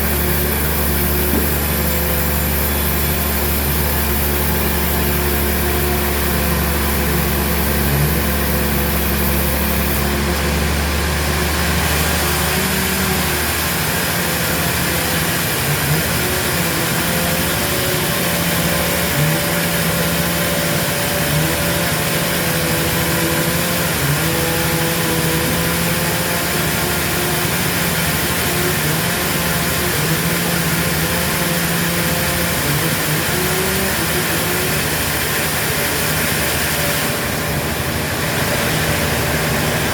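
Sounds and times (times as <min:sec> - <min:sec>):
sawmill machinery running: 0:00.0 - 0:39.9
wavering motor hum: 0:00.0 - 0:39.9.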